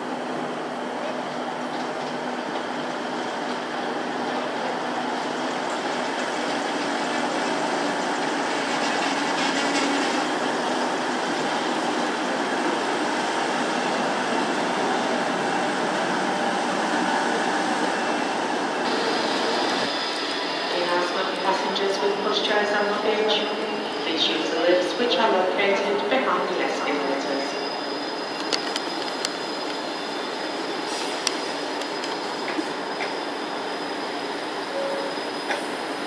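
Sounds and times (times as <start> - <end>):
train running past: 0.0 - 36.0.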